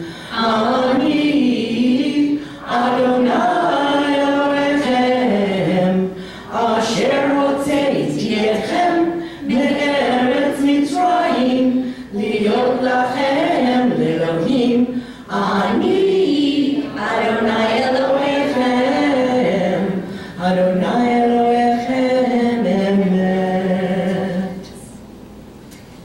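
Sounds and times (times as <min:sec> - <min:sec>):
congregation chanting a prayer: 0:00.0 - 0:24.8.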